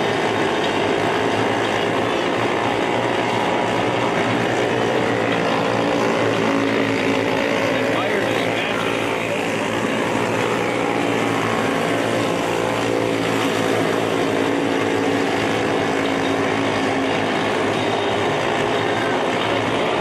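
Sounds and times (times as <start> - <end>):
small race car engines running: 0.0 - 20.0.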